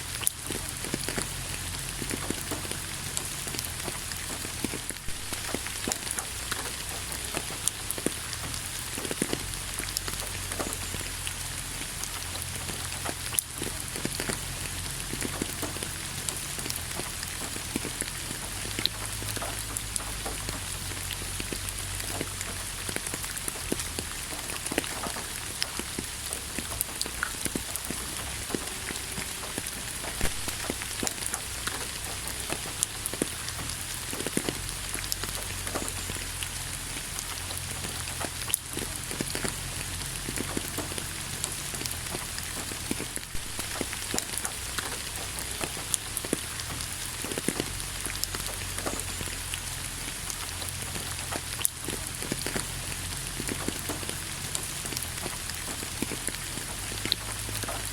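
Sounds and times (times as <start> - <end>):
low steady rumble: 0.0 - 57.9
raindrops ticking on a surface: 0.0 - 57.9
steady rain hiss: 0.0 - 57.9.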